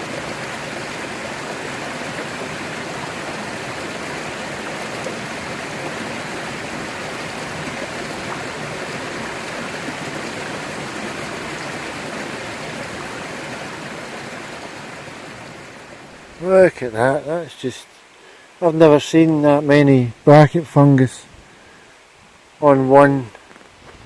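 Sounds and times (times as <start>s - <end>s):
river rushing over stones: 0.0s - 24.0s.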